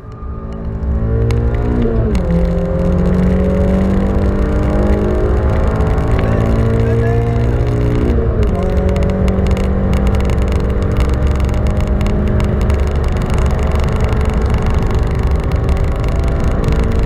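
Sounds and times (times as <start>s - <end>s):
car engine pulling hard: 0.0s - 17.0s
road and wind rumble: 0.0s - 17.0s.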